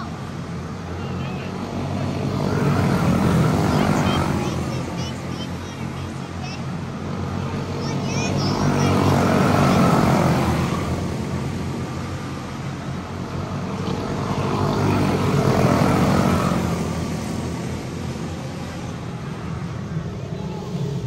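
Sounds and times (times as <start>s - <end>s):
small race car engines buzzing: 0.0s - 21.0s.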